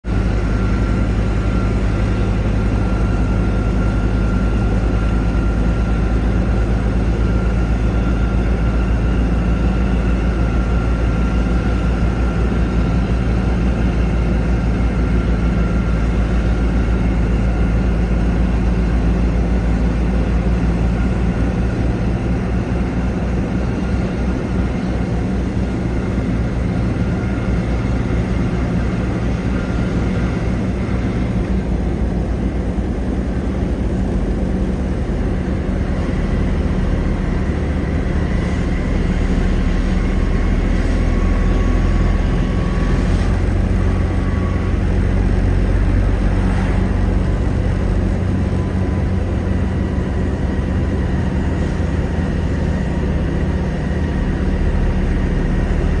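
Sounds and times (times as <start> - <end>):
diesel tractor engine drone: 0.0 - 56.0.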